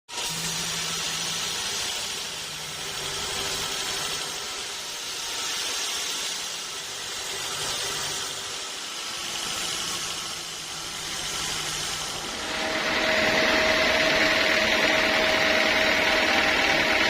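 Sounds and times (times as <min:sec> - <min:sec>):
bandsaw sawmill running: 0:00.1 - 0:17.0.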